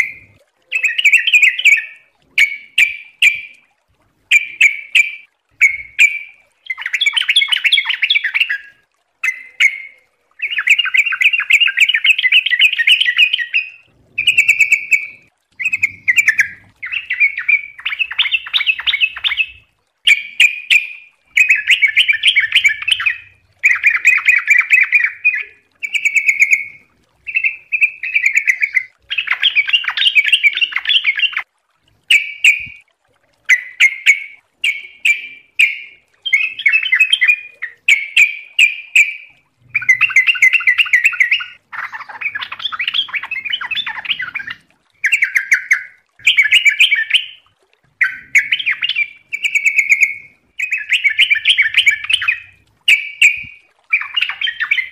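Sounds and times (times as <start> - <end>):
bird singing bubbly phrases: 0.0 - 54.9.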